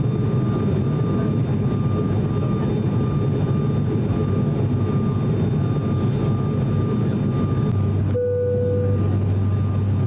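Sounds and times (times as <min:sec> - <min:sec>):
faint steady whine: 0:00.0 - 0:10.0
turboprop engine cabin drone: 0:00.0 - 0:10.0.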